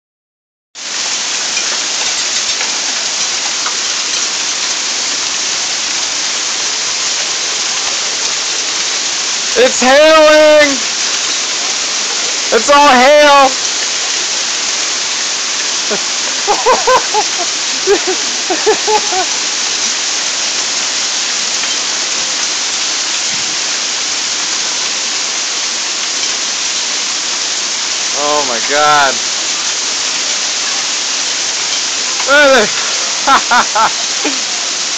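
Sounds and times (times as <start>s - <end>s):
hail and heavy rain falling: 0.8s - 34.9s.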